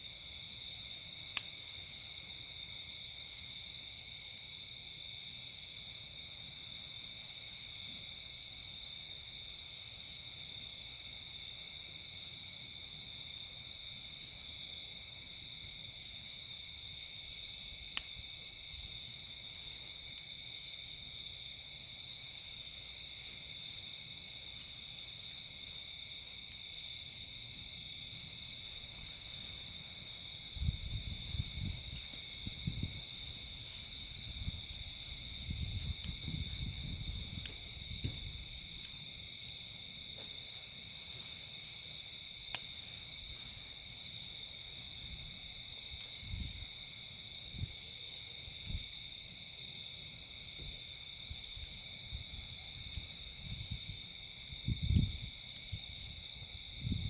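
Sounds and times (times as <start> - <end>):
campfire popping: 0.0 - 8.8, 9.4 - 13.4, 14.9 - 47.8, 50.2 - 57.0
high-pitched insect chorus: 0.0 - 57.0.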